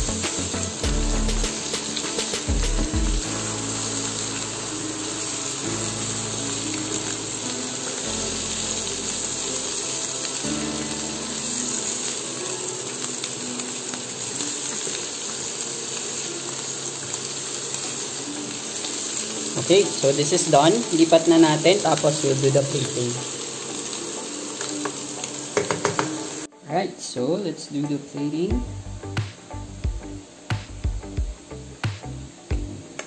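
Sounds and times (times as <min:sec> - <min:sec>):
food sizzling in a frying pan: 0:00.0 - 0:33.0
soft background music: 0:00.0 - 0:33.0.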